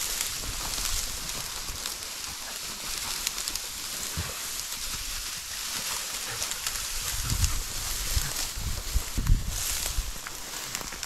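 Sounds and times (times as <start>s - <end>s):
dry grass rustling and crackling: 0.0s - 11.0s.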